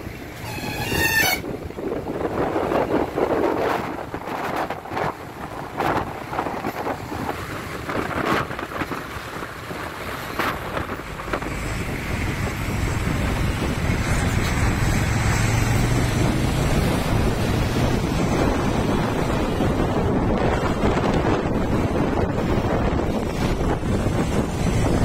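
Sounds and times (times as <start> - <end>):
road traffic noise: 0.0 - 25.0
wind buffeting microphone: 0.0 - 25.0
low engine hum: 1.5 - 25.0.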